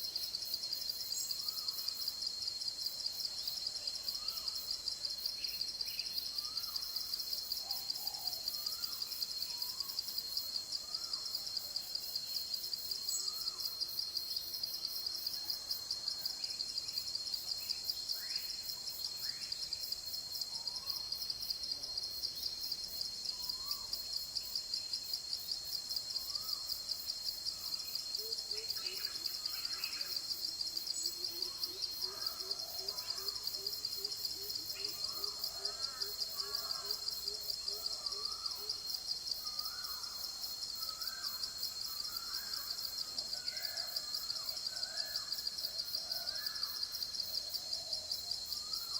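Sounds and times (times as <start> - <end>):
pulsing high insect chorus: 0.0 - 48.9.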